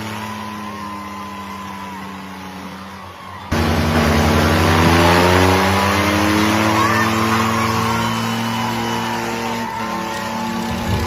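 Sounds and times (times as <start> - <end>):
tractor engine at high revs: 0.0 - 11.0.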